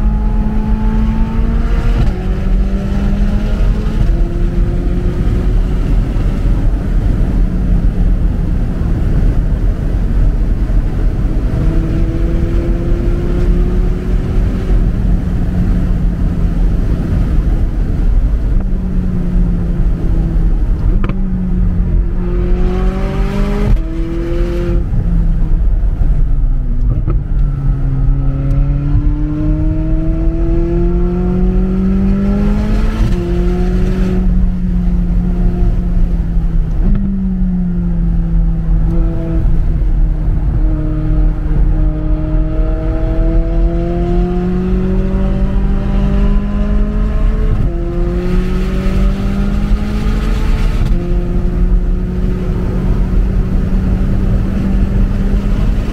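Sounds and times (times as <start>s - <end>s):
low wind rumble: 0.0s - 55.9s
sports car engine accelerating: 0.0s - 55.9s.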